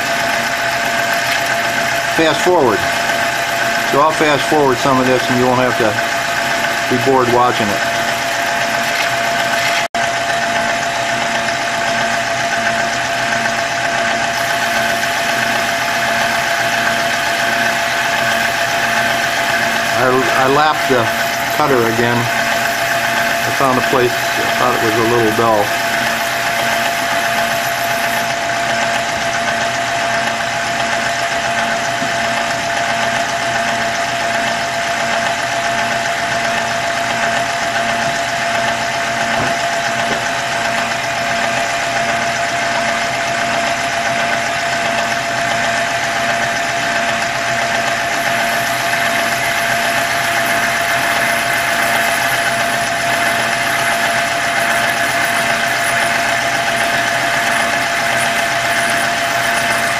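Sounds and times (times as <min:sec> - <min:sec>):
milling machine cutter whirring: 0:00.0 - 0:59.9.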